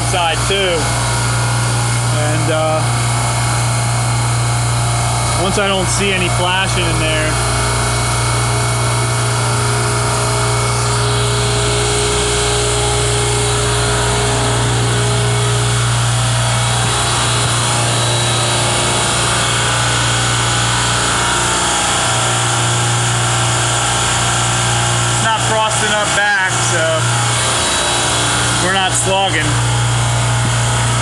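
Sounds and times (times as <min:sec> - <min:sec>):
refrigeration compressor humming: 0:00.0 - 0:31.0.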